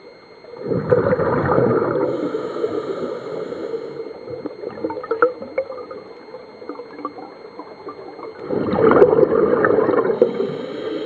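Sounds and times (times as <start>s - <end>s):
faint underwater crackling: 0.0s - 11.0s
diver's bubbles gurgling: 0.4s - 11.0s.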